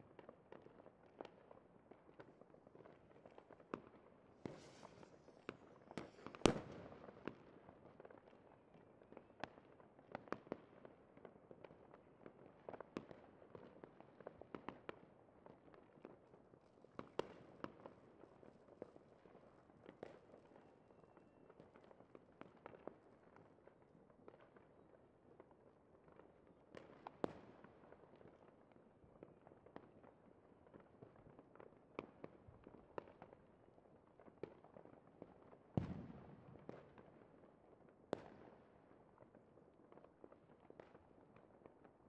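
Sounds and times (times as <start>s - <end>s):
fireworks cracks and pops: 0.0s - 42.0s.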